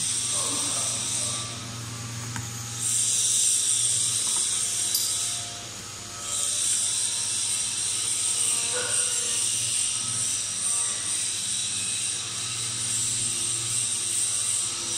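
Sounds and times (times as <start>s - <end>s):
machine humming and whirring: 0.0s - 14.9s.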